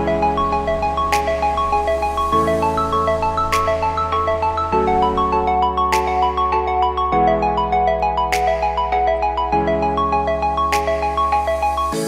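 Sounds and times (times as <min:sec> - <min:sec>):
bouncy melody over bass: 0:00.0 - 0:12.0.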